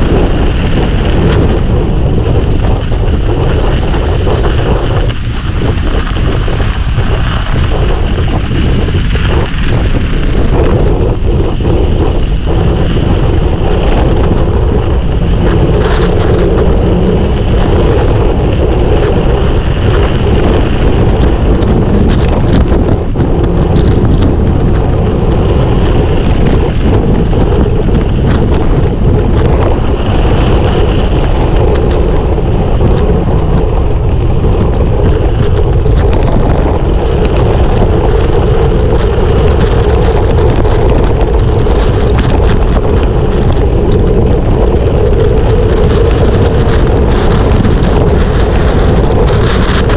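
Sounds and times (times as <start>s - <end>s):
bike clicks and rattles: 0.0s - 49.9s
bike rolling rumble: 0.0s - 49.9s
wind buffeting microphone: 0.0s - 49.9s.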